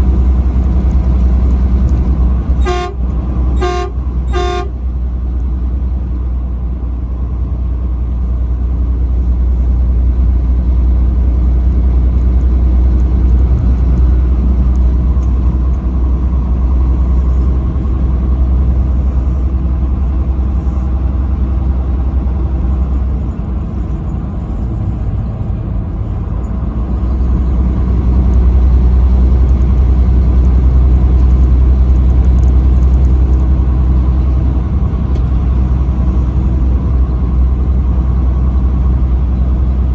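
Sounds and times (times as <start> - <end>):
truck driving at highway speed: 0.0 - 39.9.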